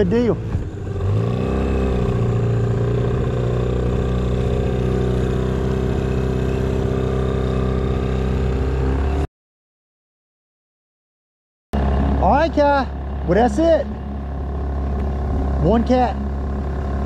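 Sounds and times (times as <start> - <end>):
outboard motor running: 0.0 - 9.3, 11.8 - 17.0.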